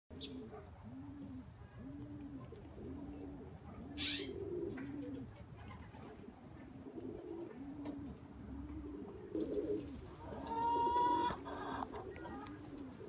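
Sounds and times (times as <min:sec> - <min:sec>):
bird cooing: 0:00.1 - 0:13.0.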